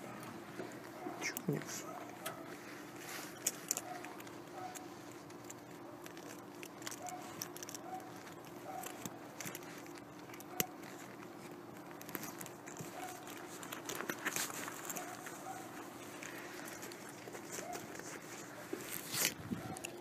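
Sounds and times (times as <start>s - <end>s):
leather bag rustling: 0.0s - 20.0s
zipper pulls clicking and rattling: 3.1s - 20.0s.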